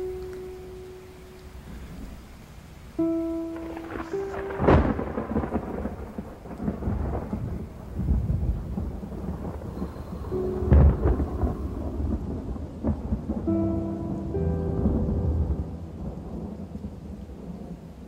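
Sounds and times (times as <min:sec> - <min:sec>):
soft sustained music notes: 0:00.0 - 0:18.0
steady rain: 0:00.0 - 0:18.0
thunder claps rumbling: 0:00.0 - 0:18.0.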